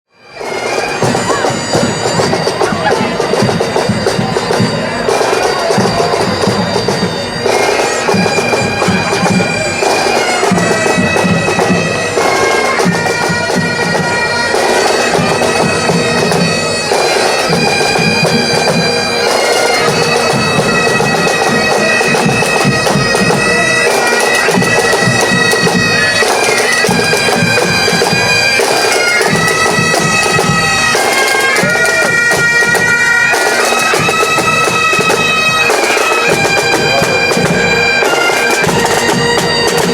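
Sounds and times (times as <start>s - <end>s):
bagpipes playing: 0.2s - 39.9s.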